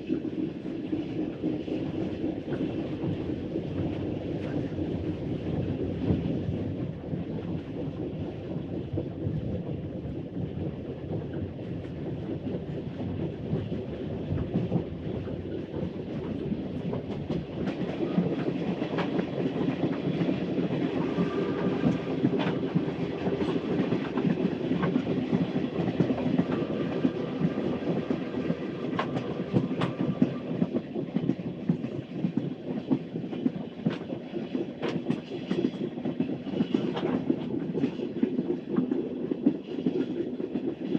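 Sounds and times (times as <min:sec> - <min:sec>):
steam train rumbling on rails: 0:00.0 - 0:40.9
train clanks and clicks: 0:00.0 - 0:40.9.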